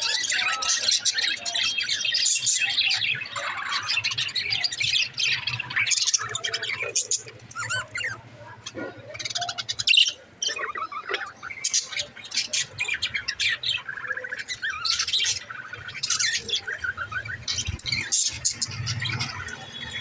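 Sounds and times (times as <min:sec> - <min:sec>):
budgerigar chirping and warbling: 0:00.0 - 0:20.0.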